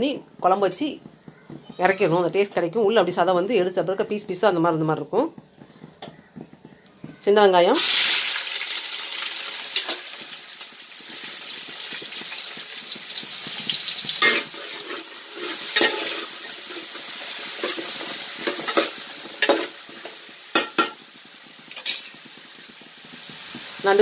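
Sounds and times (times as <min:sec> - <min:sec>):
shallots sizzling in oil: 0:00.0 - 0:24.0.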